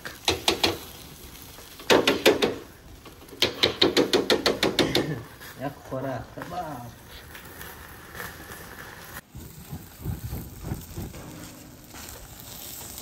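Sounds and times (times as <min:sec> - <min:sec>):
fat crackling on hot coals: 0:00.0 - 0:13.0
meat sizzling on a grill: 0:00.0 - 0:13.0.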